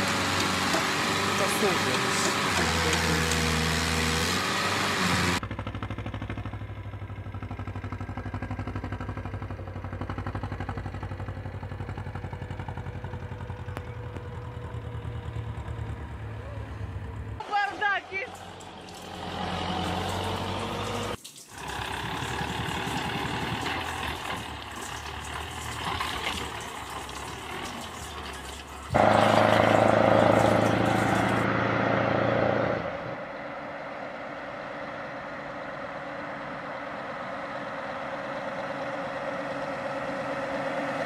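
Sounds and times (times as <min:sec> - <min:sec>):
road and engine noise in car: 0:00.0 - 0:41.0.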